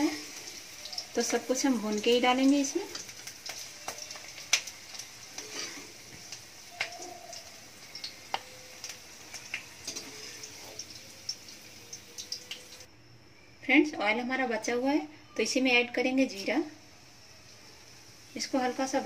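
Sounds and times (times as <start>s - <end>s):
hot oil sizzling: 0.0s - 12.9s, 16.0s - 19.0s.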